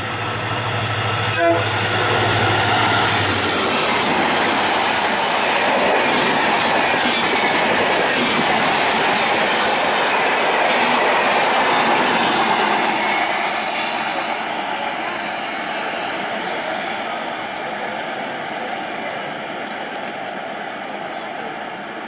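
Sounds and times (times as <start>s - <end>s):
train wheels rushing on rails: 0.0s - 22.0s.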